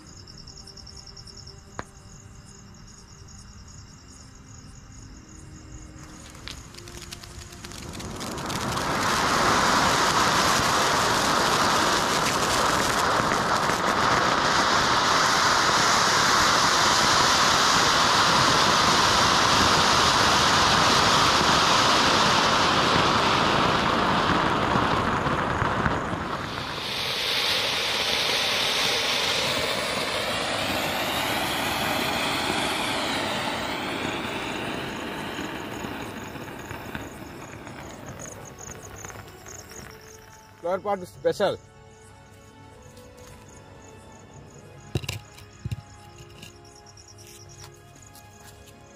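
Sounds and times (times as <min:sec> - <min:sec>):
firework fountain hissing: 0:06.0 - 0:41.4, 0:43.0 - 0:48.9.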